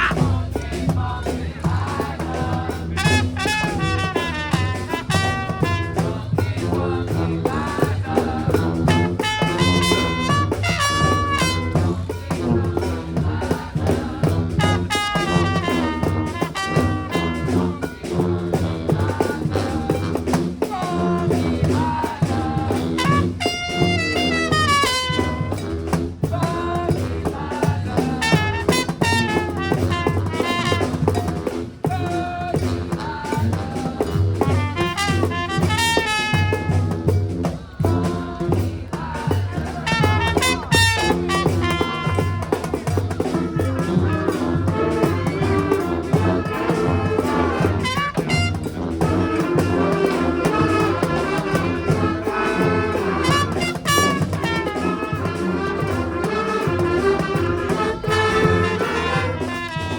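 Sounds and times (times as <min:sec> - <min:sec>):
drum kit beat: 0:00.0 - 0:56.2, 0:57.0 - 0:59.9
brass band playing: 0:00.0 - 0:59.9.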